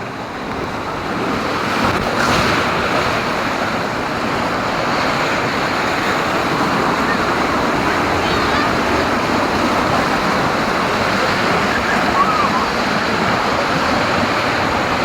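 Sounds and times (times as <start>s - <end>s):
rush of moving water: 0.0s - 15.0s.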